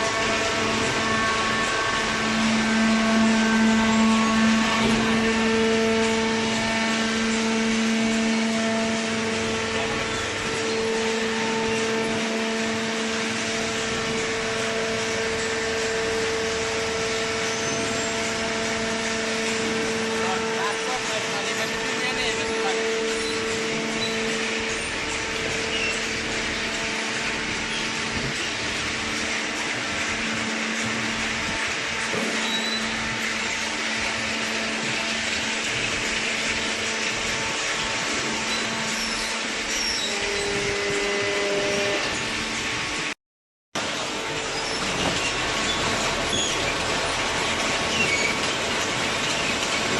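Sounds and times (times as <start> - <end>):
baling press machine hum: 0.0 - 43.2, 43.8 - 49.9.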